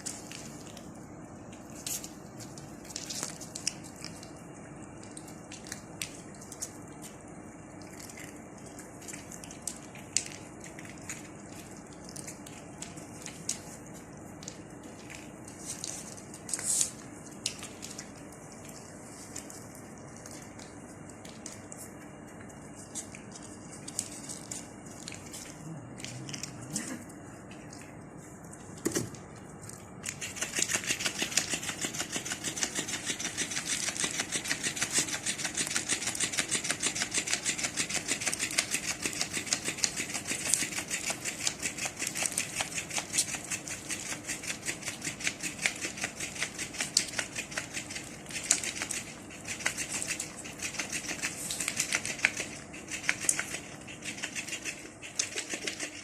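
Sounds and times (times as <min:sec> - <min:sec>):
cats crunching dry food: 0:00.0 - 0:56.0.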